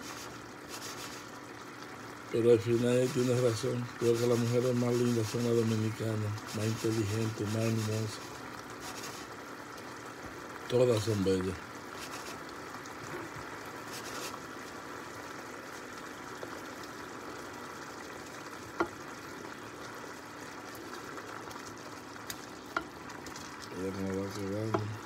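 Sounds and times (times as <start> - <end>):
sauce bubbling and sizzling in a skillet: 0.0 - 25.0.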